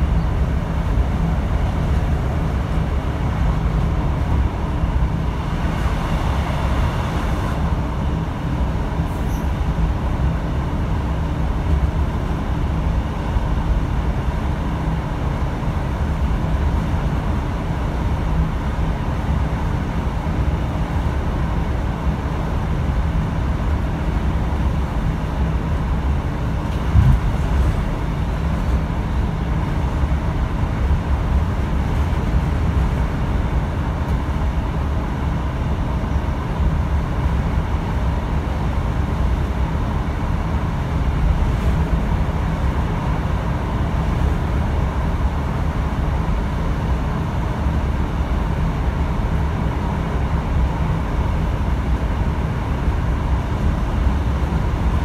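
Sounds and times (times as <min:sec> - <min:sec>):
train diesel engine drone: 0:00.0 - 0:55.0
train wheels rumbling on rails: 0:00.0 - 0:55.0.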